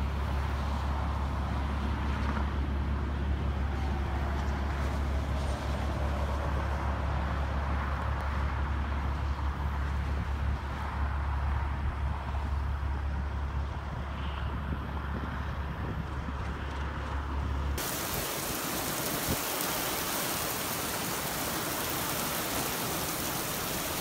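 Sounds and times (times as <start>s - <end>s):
vehicle road and engine rumble: 0.0s - 24.0s.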